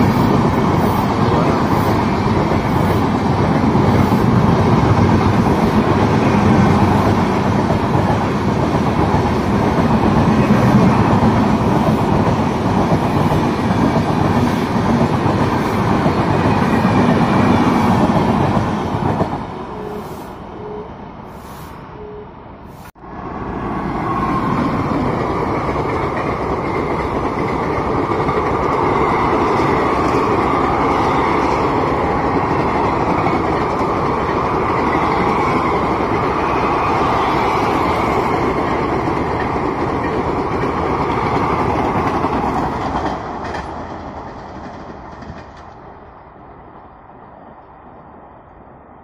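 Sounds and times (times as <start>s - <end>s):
train wheels rumbling and clattering: 0.0s - 20.2s, 23.9s - 48.1s.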